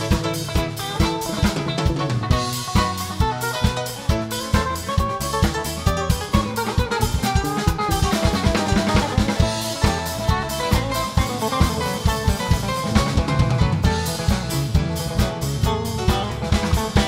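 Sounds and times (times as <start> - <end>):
band playing instrumental: 0.0 - 17.0
drum kit driving beat: 0.0 - 17.0.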